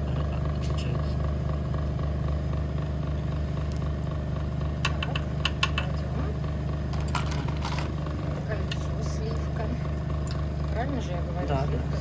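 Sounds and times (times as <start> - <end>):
tumbling machine humming: 0.0 - 12.0.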